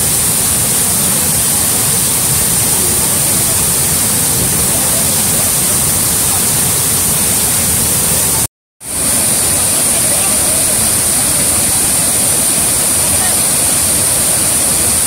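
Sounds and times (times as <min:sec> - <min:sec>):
water pouring over spillway: 0:00.0 - 0:15.0.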